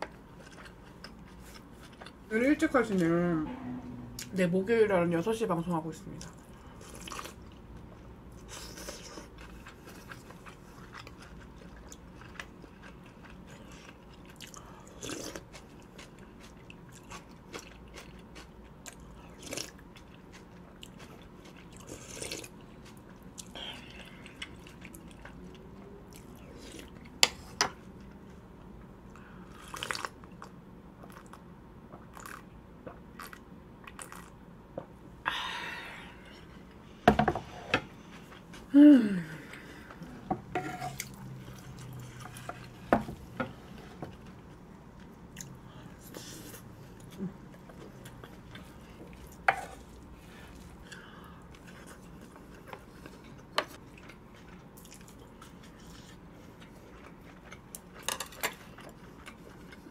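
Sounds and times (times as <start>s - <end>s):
person chewing: 6.2s - 28.4s, 29.1s - 34.9s, 39.4s - 59.9s.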